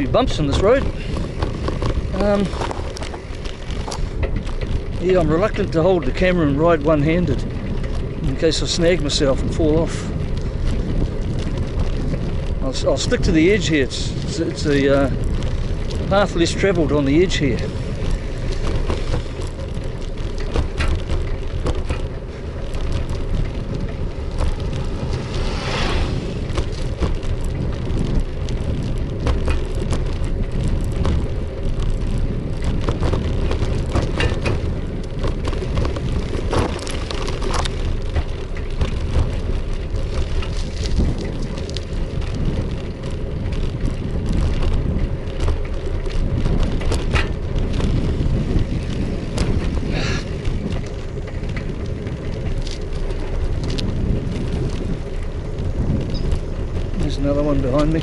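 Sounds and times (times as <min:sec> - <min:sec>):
bike rattles and knocks: 0:00.0 - 0:58.0
wind rumble on microphone: 0:00.0 - 0:58.0.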